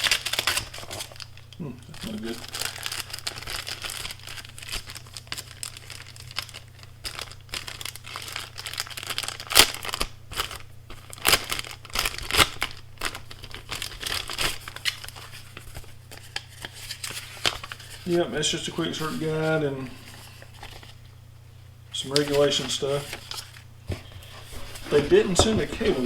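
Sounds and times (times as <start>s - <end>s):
box packaging crinkling: 0.0s - 21.2s, 22.0s - 26.0s.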